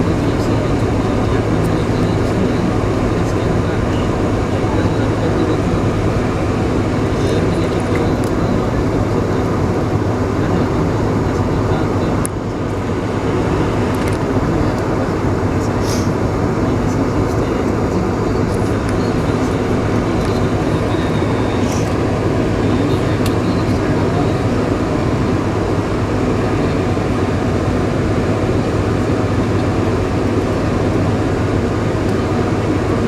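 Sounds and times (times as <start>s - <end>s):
aircraft engine rumble and hum: 0.0s - 33.0s.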